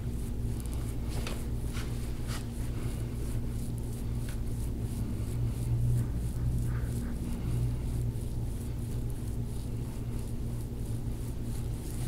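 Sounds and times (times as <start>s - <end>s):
soft rubbing swishes on skin: 0.0s - 12.0s
steady low hum: 0.0s - 12.0s.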